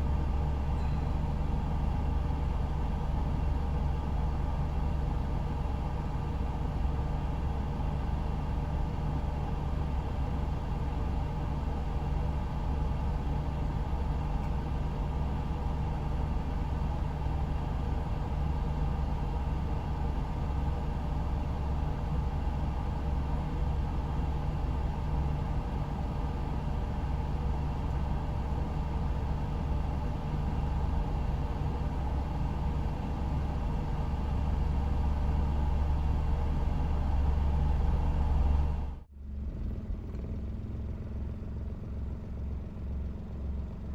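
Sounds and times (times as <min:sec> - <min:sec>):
vehicle engine rumble: 0:00.0 - 0:43.9.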